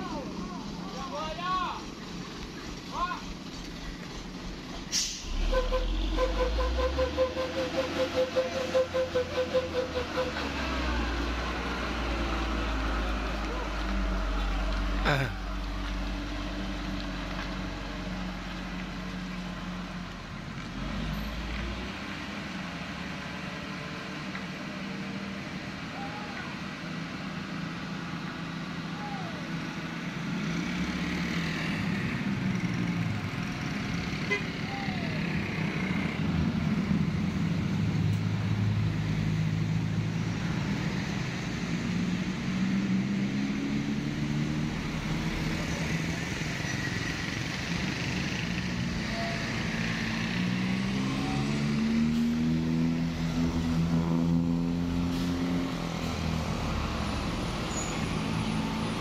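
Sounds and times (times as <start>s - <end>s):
passing road traffic: 0.0s - 59.0s
truck diesel engine labouring: 0.0s - 59.0s.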